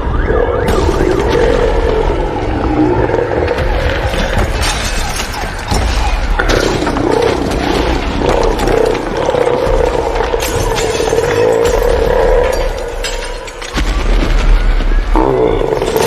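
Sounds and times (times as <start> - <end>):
crackling noise: 0.0 - 16.0
wavering siren-like drone: 0.0 - 16.0.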